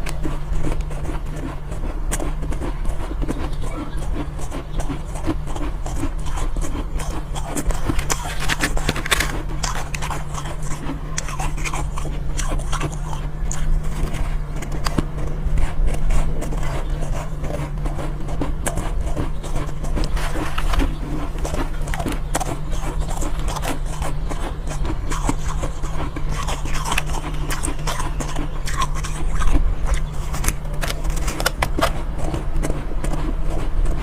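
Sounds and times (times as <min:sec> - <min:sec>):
ice being chewed: 0:00.0 - 0:34.0
steady low hum: 0:00.0 - 0:34.0.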